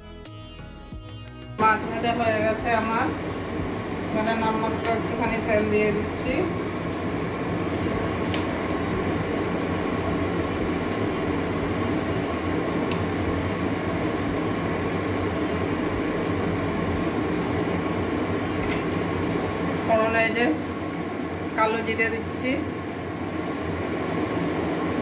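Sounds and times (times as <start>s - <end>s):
gas stove rushing hum: 1.3s - 25.0s.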